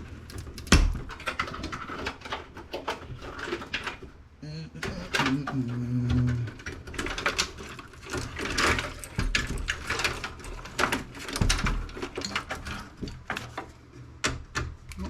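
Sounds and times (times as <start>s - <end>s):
computer parts clicking and clattering: 0.0s - 4.2s, 4.8s - 15.0s.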